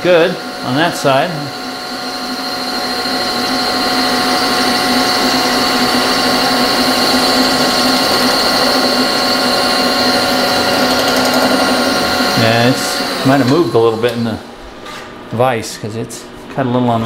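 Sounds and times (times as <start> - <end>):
milling machine whine: 0.0 - 14.6.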